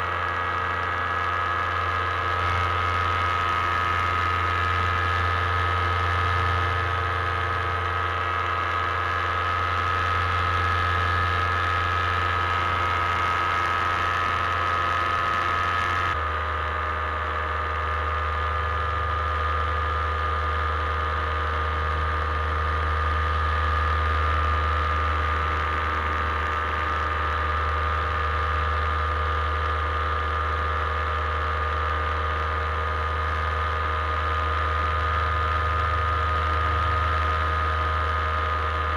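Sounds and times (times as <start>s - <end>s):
paramotor engine droning: 0.0s - 38.9s.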